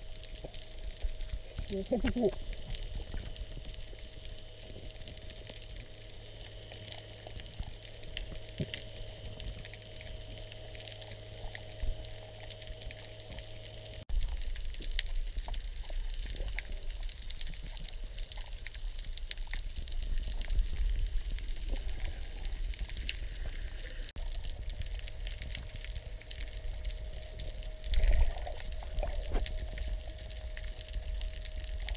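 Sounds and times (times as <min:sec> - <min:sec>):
faint steady hum: 0:00.0 - 0:31.9
underwater rumble of moving water: 0:00.0 - 0:31.9
sharp clicks and crackles: 0:00.1 - 0:31.9.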